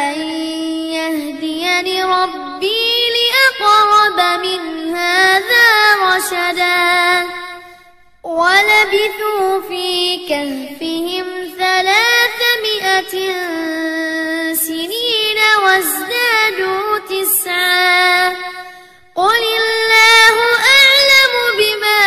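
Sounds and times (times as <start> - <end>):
child reciting melodically: 0.0 - 7.4, 8.3 - 18.6, 19.2 - 22.0.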